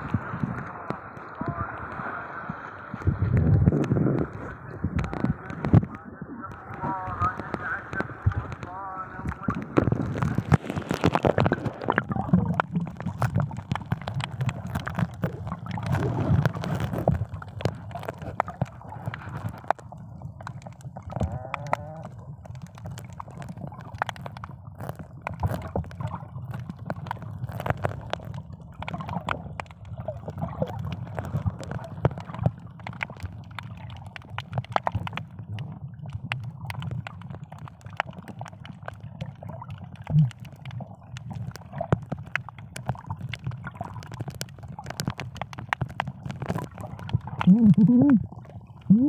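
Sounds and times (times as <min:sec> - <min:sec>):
muffled underwater water rush: 0:00.0 - 0:49.0
sharp underwater clicks and crackles: 0:00.0 - 0:49.0.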